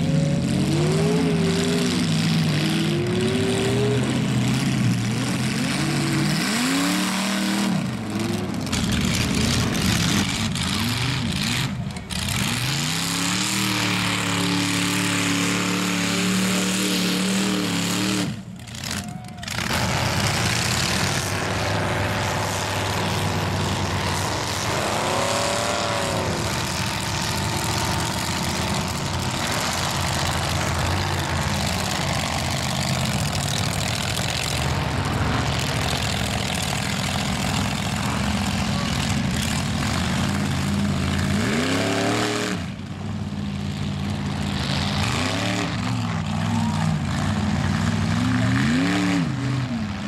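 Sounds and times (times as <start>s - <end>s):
engine revving: 0.0s - 50.0s
truck engine running hard: 0.0s - 50.0s.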